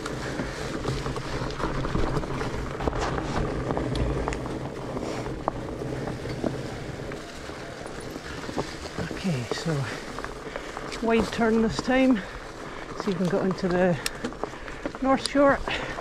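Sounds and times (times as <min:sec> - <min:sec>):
bike clicks and rattles: 0:00.0 - 0:16.0
bike tyres rolling on dirt trail: 0:00.0 - 0:16.0.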